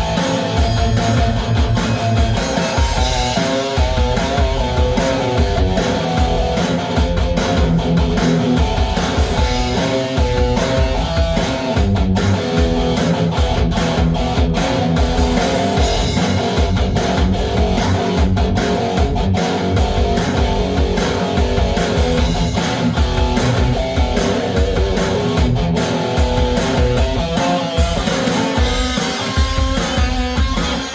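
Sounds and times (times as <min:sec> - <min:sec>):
steady low beat: 0:00.0 - 0:30.6
electric guitar rock music: 0:00.0 - 0:30.9.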